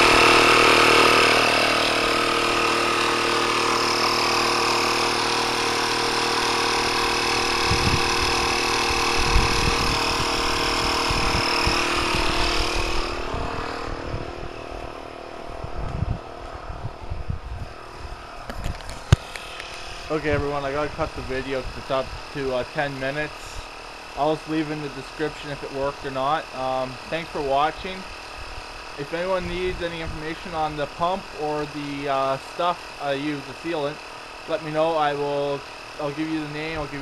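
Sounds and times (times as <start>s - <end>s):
air pump running: 0.0s - 37.0s.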